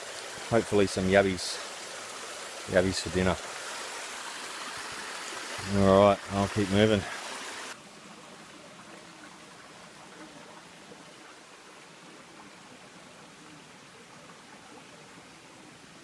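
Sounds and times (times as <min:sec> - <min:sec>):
faint rainforest background hiss: 0:00.0 - 0:16.0.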